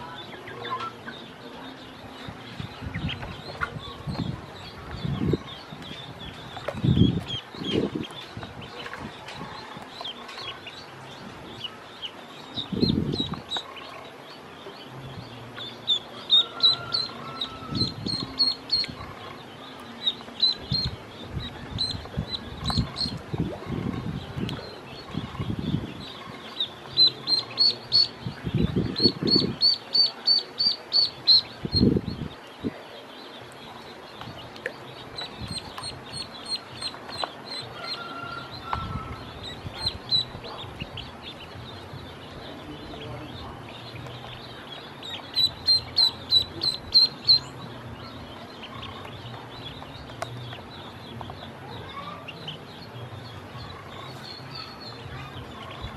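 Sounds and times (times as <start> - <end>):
ducklings peeping: 0.0 - 55.9.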